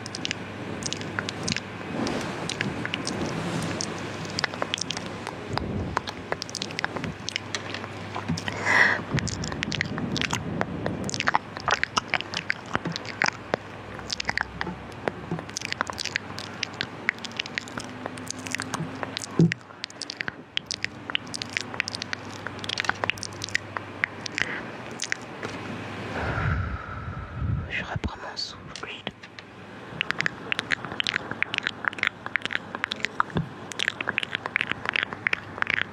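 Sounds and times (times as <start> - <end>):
wet lip and tongue clicks: 0.0 - 25.6, 28.8 - 29.4, 30.0 - 35.9.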